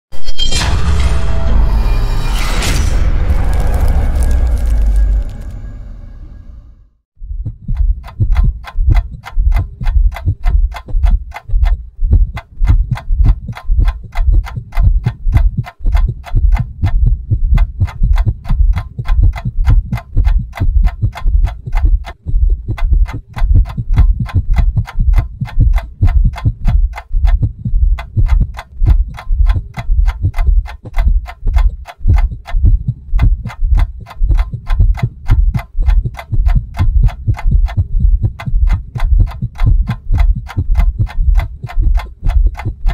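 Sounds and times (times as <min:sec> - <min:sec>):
deep pulsing bass thumps: 0:00.4 - 0:42.9
fast even ticking: 0:07.4 - 0:42.9.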